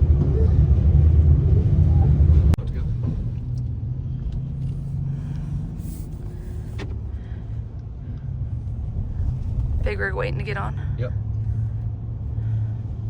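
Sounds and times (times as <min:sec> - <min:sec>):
low hum: 0:00.0 - 0:13.0
road noise: 0:00.0 - 0:13.0
vehicle engine rumble: 0:00.0 - 0:13.0.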